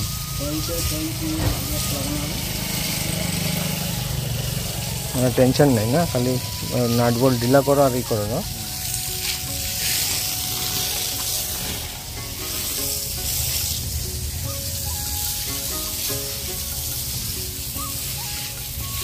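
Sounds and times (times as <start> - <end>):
diesel engine running steadily: 0.0 - 6.9, 8.0 - 19.0
faint background music: 0.0 - 19.0.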